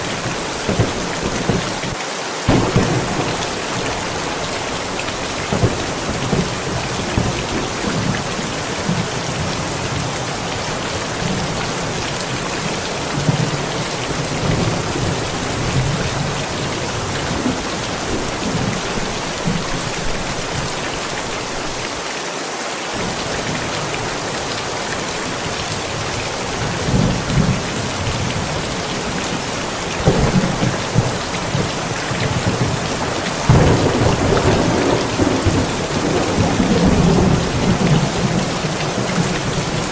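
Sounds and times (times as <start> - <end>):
low rumbling thunder: 0.0 - 20.8, 25.7 - 39.9
steady rain falling: 0.0 - 39.9.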